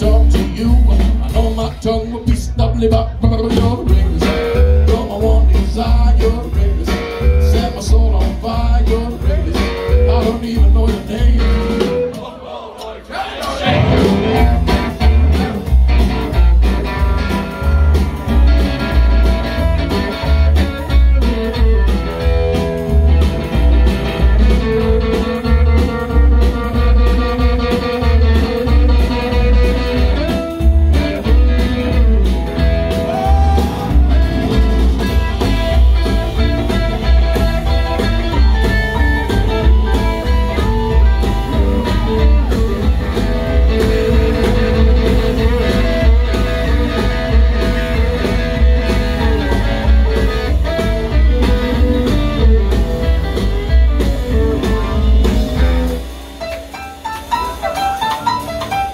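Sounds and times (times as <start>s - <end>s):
rock and roll band playing: 0.0s - 58.9s.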